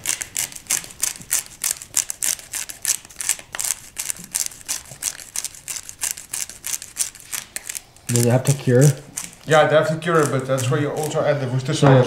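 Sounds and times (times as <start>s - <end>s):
pepper mill grinding: 0.0s - 11.8s.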